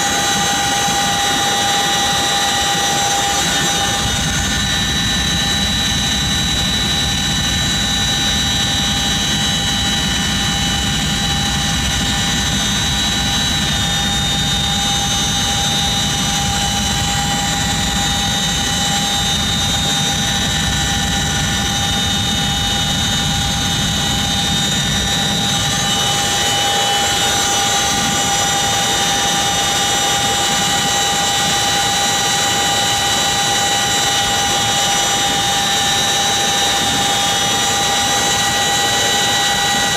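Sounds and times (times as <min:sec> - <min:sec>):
helicopter low rumble: 0:00.0 - 0:39.9
helicopter turbine whine: 0:00.0 - 0:39.9.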